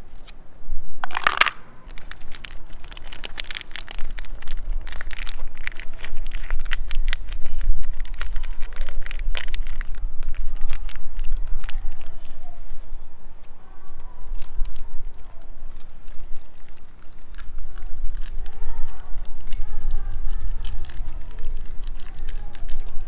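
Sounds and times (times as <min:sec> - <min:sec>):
foil food pouch crinkling: 0:01.0 - 0:13.1, 0:14.0 - 0:23.0.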